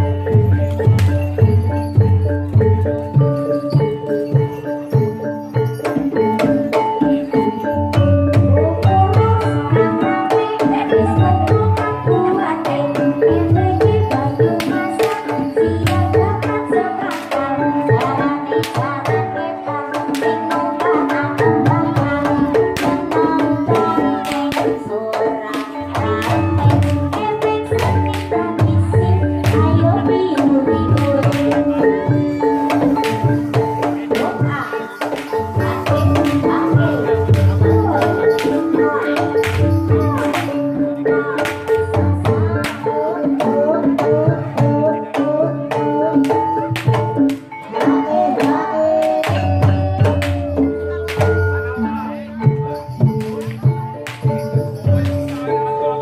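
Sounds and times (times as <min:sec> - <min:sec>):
struck tuned percussion notes: 0:00.0 - 0:56.0.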